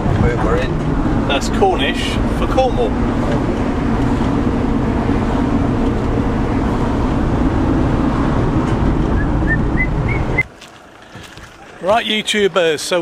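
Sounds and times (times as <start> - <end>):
road and engine noise in van: 0.0 - 13.0.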